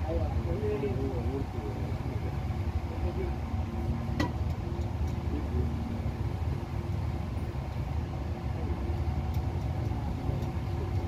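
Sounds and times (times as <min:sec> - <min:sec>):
engine idling: 0:00.0 - 0:11.0
faint steady hum: 0:00.0 - 0:11.0.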